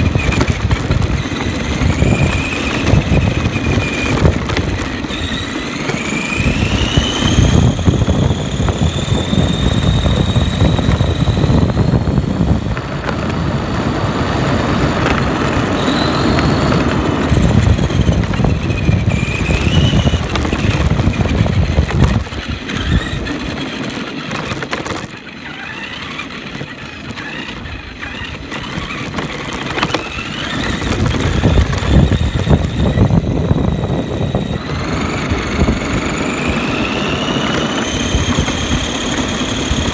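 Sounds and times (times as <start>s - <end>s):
electric motor and gears whining: 0.0s - 39.9s
tyres rumbling on rough concrete: 0.0s - 39.9s.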